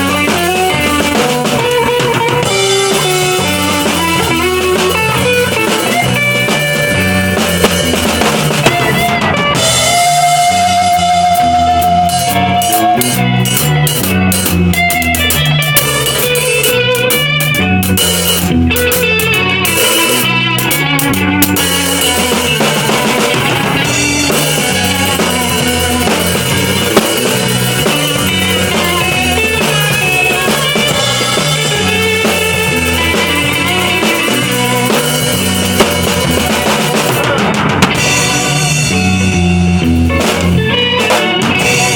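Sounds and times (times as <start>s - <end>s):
drum kit playing: 0.0s - 41.9s
guitar playing: 0.0s - 41.9s.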